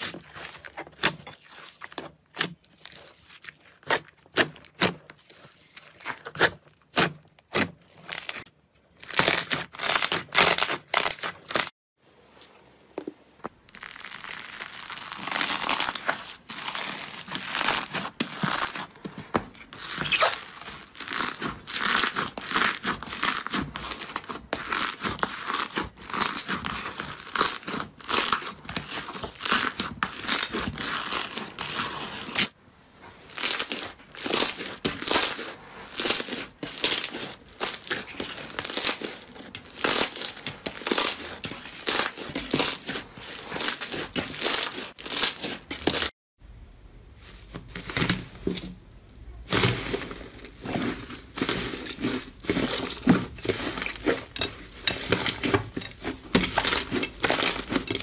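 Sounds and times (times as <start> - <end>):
slime crackling and squelching: 0.0 - 11.7, 13.5 - 46.1, 47.2 - 58.0.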